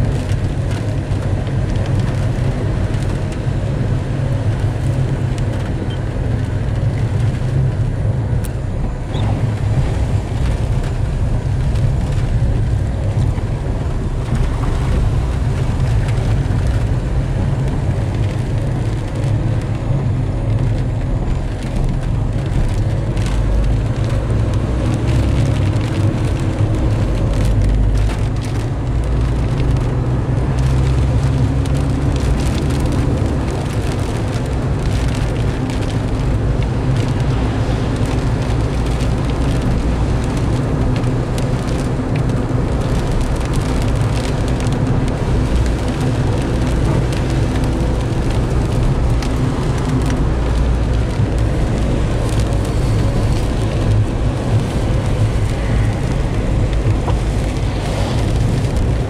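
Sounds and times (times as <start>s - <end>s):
vehicle driving on wet road: 0.0s - 59.0s
water spraying under wheels: 9.2s - 59.0s.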